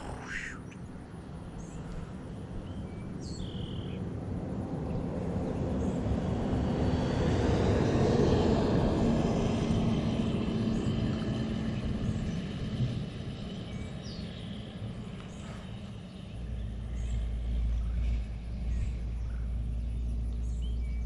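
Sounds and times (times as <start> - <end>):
propeller airplane engine drone: 0.0 - 21.0.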